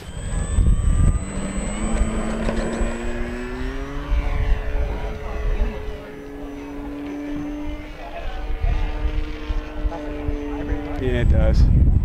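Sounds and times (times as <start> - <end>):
model plane motor droning: 0.0 - 12.0
wind buffeting microphone: 0.0 - 12.0.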